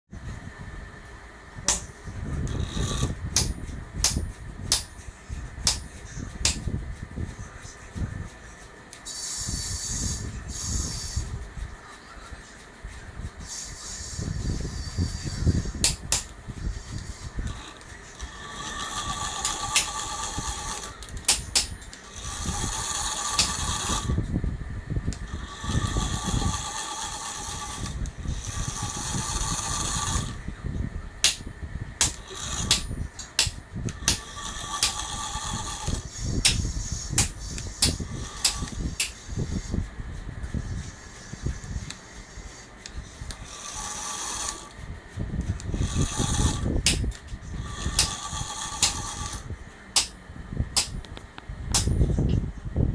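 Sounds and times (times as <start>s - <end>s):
geared motor whining: 1.6s - 51.1s.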